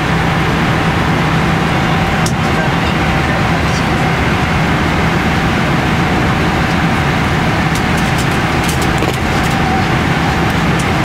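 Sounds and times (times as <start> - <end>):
aircraft cabin engine drone: 0.0 - 11.0.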